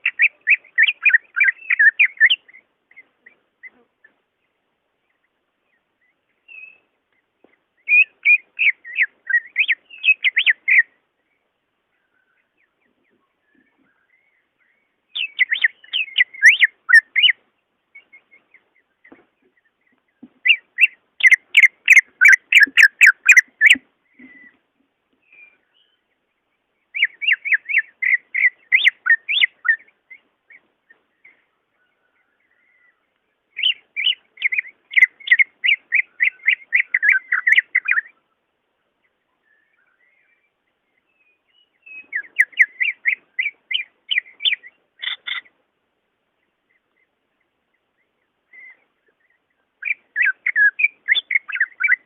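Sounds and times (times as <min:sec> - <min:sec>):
bird chattering whistled song: 0:00.0 - 0:04.2, 0:06.0 - 0:06.9, 0:07.8 - 0:11.0, 0:12.0 - 0:17.4, 0:18.0 - 0:24.6, 0:26.9 - 0:31.4, 0:32.2 - 0:38.4, 0:39.0 - 0:45.6, 0:46.6 - 0:52.0.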